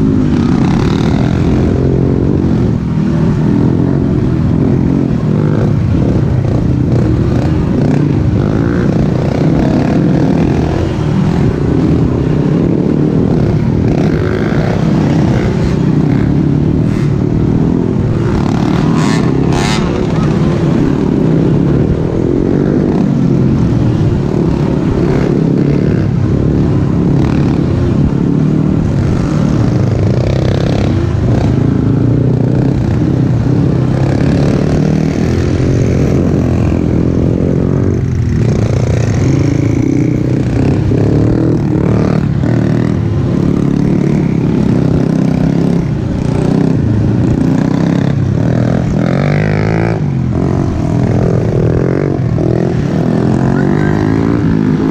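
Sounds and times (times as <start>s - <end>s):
quad bike engines: 0.0s - 54.9s.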